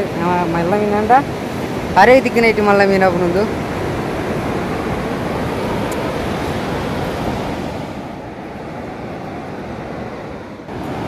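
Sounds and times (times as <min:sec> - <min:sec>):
surf breaking on beach: 0:00.1 - 0:11.0.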